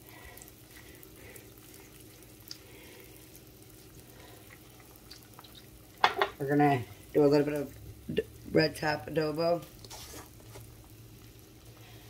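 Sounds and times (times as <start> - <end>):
peppers sizzling in a pan: 0.0 - 12.0.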